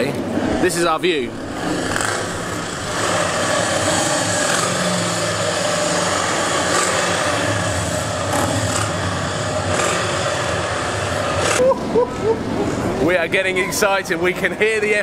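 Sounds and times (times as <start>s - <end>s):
motorcycle engines running: 0.0s - 13.5s.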